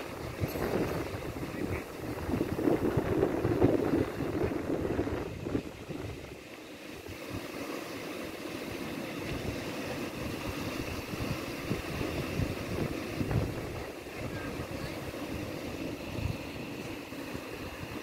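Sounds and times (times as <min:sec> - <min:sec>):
wind buffeting microphone: 0:00.0 - 0:07.6, 0:09.1 - 0:18.0
surf washing up beach: 0:00.0 - 0:18.0.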